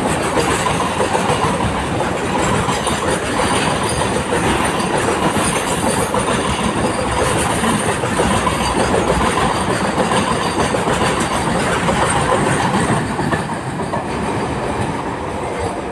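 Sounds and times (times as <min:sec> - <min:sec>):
train wheels clattering on rails: 0:00.0 - 0:15.9.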